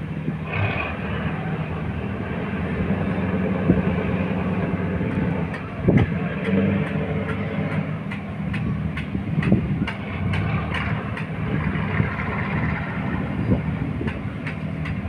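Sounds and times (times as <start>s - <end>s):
boat engine low drone: 0.0s - 15.0s.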